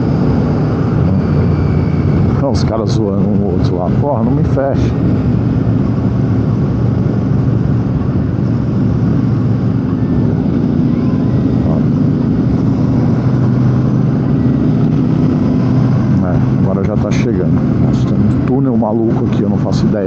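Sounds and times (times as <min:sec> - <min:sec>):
motorcycle engine cruising: 0:00.0 - 0:20.0
road and wind noise: 0:00.0 - 0:20.0.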